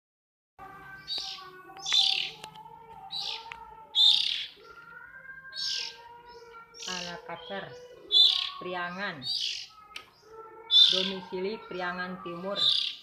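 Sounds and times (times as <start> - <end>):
bird harsh raspy calls: 1.0 - 2.4, 3.1 - 13.0.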